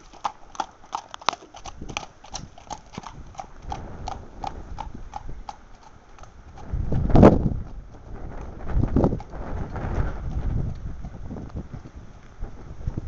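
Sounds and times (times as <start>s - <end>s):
horse hooves clip-clopping: 0.0s - 13.0s
wind rumbling on microphone: 0.0s - 13.0s.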